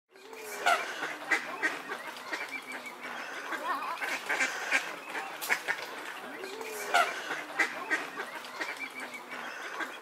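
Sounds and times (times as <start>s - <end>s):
water splashing: 0.2s - 10.0s
waterfowl calling: 0.3s - 10.0s.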